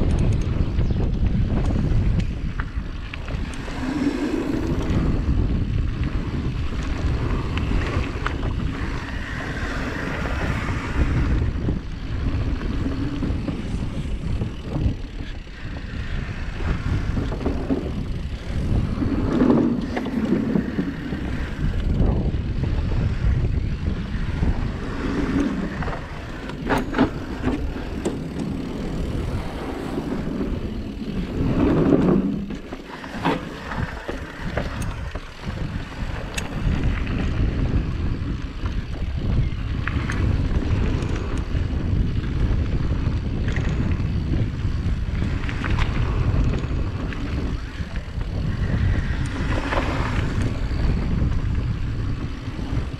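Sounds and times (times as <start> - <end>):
bike clicks and knocks: 0.0 - 52.9
wind buffeting microphone: 0.0 - 52.9
bike tyres rumbling over planks: 0.4 - 52.9.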